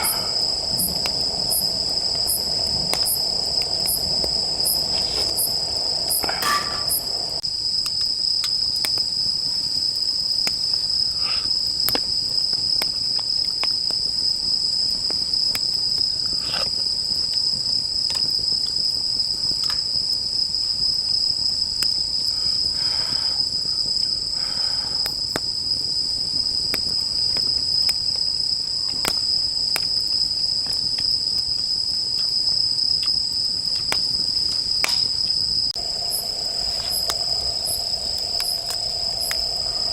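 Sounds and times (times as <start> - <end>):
crickets chirring: 0.0 - 39.9
firewood crackling and popping: 0.0 - 39.9.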